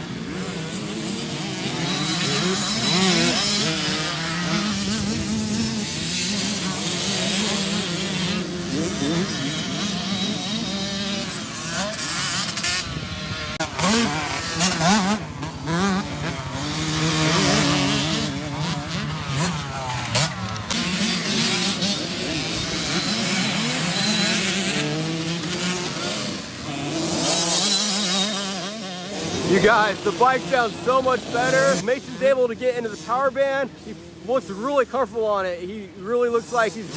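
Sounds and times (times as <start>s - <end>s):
two-stroke motocross engines revving: 0.0s - 36.9s.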